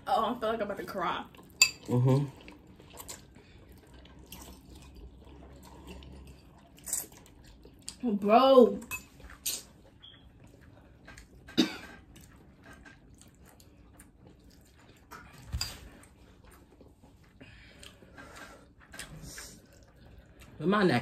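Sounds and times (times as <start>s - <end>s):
chewing: 1.3s - 8.0s, 8.8s - 20.6s.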